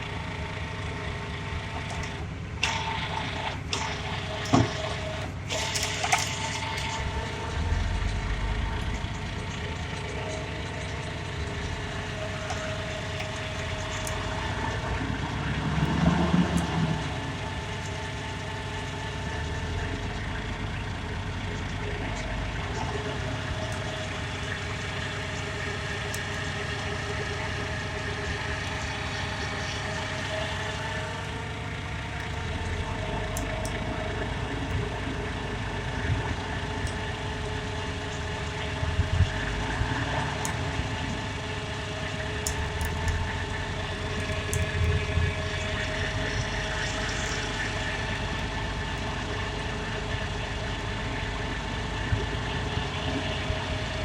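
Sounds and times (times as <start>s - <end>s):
heavy truck engine running: 0.0s - 54.0s.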